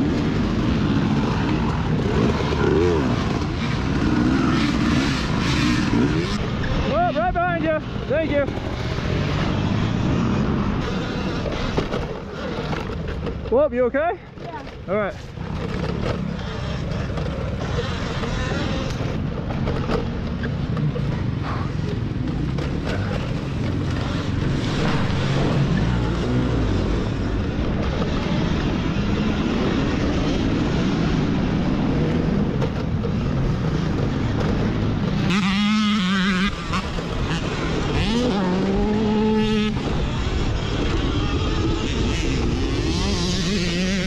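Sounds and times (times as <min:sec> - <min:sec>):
constant rushing noise: 0:00.0 - 0:44.0
dirt bike engines revving: 0:00.0 - 0:44.0.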